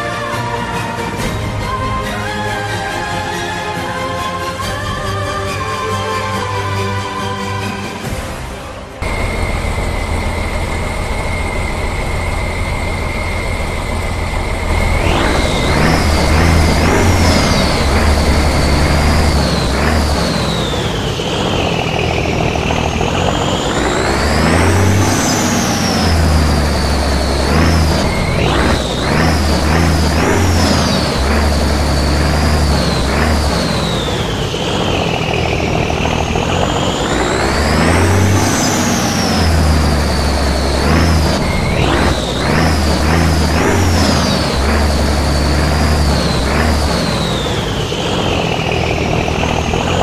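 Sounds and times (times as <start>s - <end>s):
model truck engine rumble: 8.0s - 50.0s
high motor whine: 9.0s - 50.0s.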